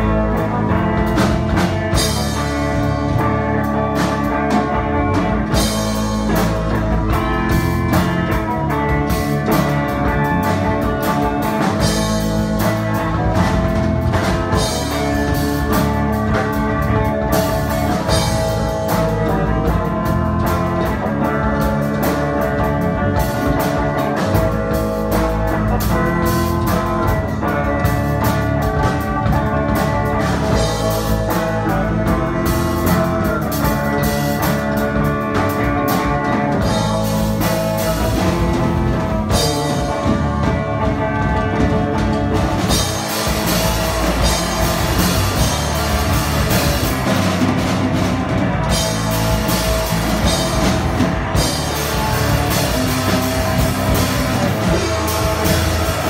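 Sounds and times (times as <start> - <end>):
drums and cymbals: 0.0 - 56.0
electric guitars: 0.0 - 56.0.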